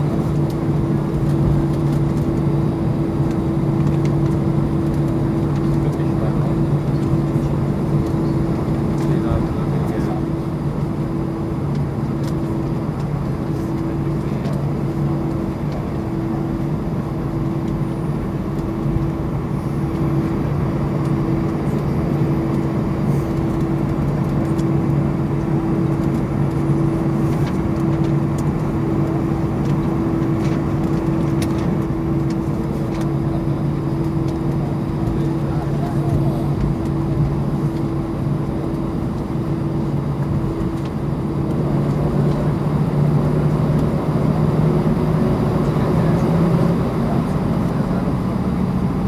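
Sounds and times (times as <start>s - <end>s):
jet engines idling: 0.0s - 49.0s
low steady hums: 0.0s - 49.0s.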